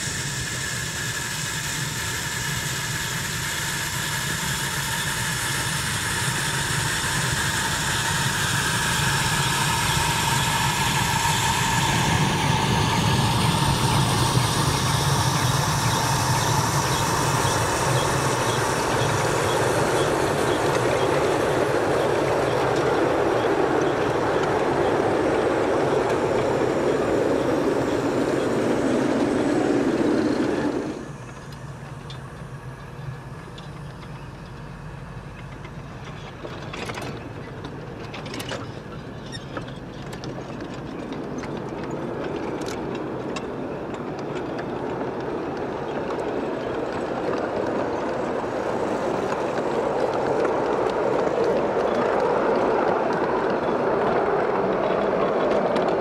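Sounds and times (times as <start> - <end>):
miniature train wheels clattering: 0.0 - 56.0.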